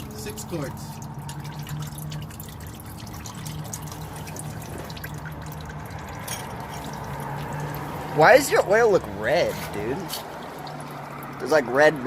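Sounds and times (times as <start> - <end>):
oil pouring into a drain pan: 0.0 - 12.0.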